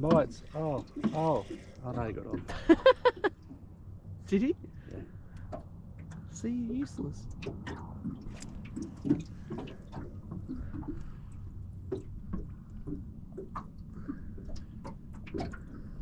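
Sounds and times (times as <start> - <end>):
waves lapping against boat hull: 0.0 - 16.0.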